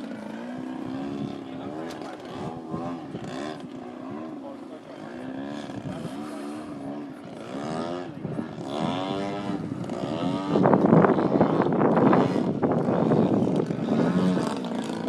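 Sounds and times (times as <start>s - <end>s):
model airplane engine buzzing: 0.0s - 15.0s
rough crackling noise: 0.0s - 15.0s.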